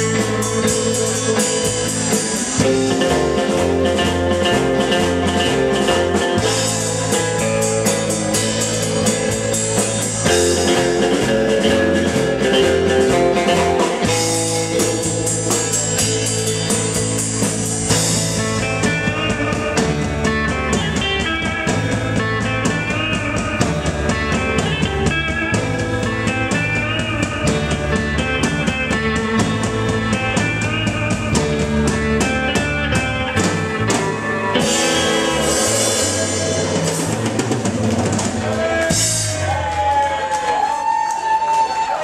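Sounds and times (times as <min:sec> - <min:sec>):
drum kit beat: 0:00.0 - 0:41.6
bass guitar: 0:00.0 - 0:42.0
electric guitars: 0:00.0 - 0:42.0.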